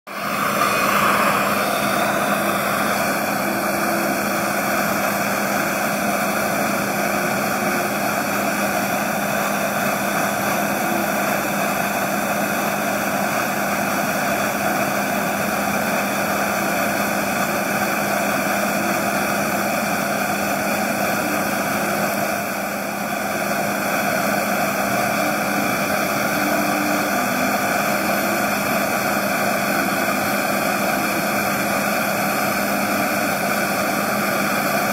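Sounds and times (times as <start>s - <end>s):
gas burner rushing: 0.1s - 34.9s.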